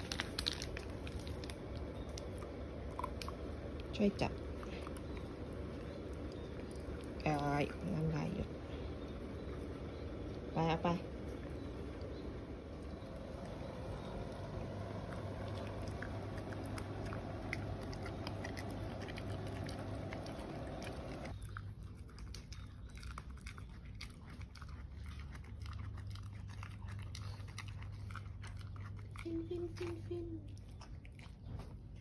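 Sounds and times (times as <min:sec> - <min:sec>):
dog chewing and crunching: 0:00.0 - 0:32.0
low steady hum: 0:00.0 - 0:32.0.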